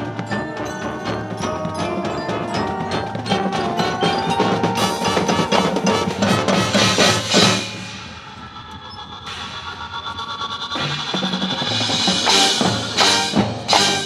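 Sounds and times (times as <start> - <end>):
marching band playing: 0.0 - 8.3, 10.8 - 14.0
drums and mallet percussion: 0.0 - 14.0.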